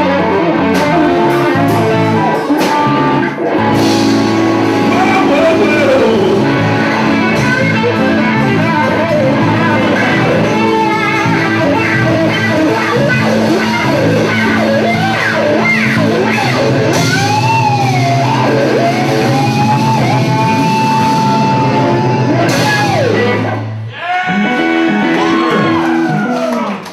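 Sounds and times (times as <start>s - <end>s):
bass notes: 0.0s - 26.6s
electric guitar solo: 0.0s - 26.8s
blues band playing: 0.0s - 26.9s.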